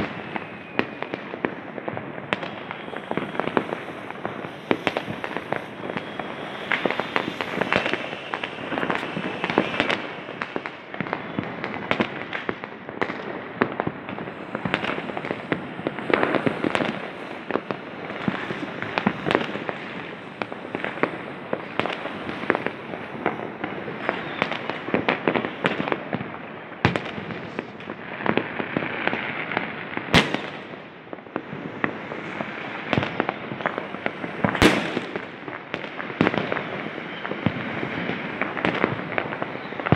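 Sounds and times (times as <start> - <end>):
firecrackers banging and crackling: 0.0 - 39.9.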